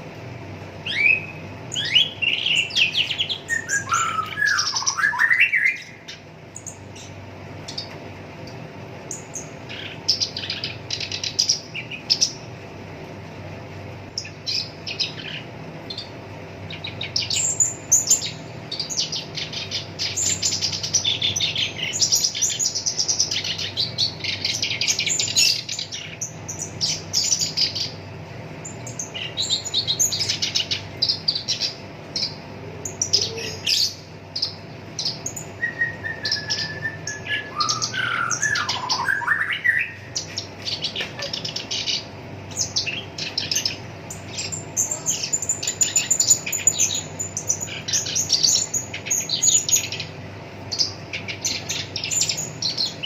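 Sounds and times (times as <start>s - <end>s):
faint background hum: 0.0s - 53.0s
reed warbler singing: 0.8s - 7.9s, 8.5s - 12.5s, 14.1s - 53.0s.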